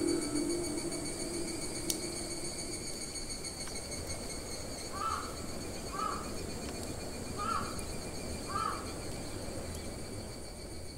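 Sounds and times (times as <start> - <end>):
faint high-pitched hum: 0.0 - 10.9.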